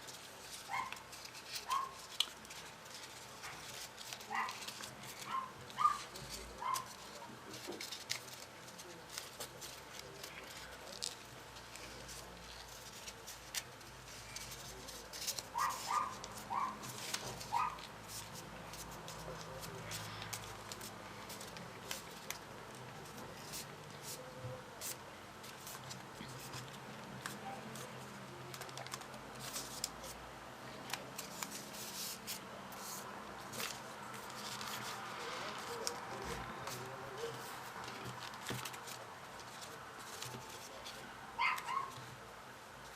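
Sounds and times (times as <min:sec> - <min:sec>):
paper rustling and clicking: 0:00.0 - 0:24.2, 0:24.8 - 0:30.2, 0:30.8 - 0:42.1.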